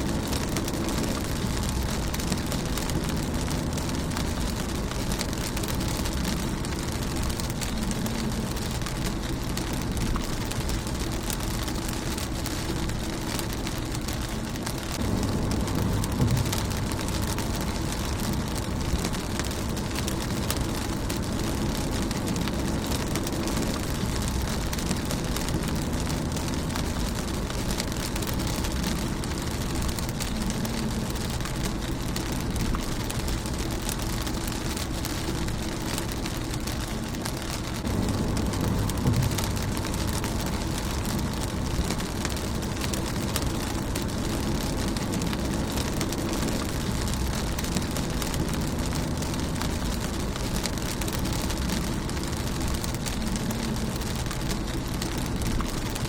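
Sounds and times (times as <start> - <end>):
low rumble: 0.0 - 56.0
rain pattering on windshield: 0.0 - 56.0.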